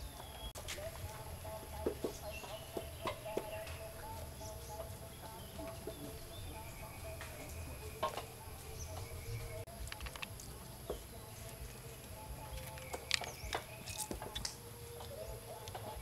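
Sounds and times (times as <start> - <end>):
chickens clucking: 0.0 - 16.0
faint birds calling: 0.0 - 16.0.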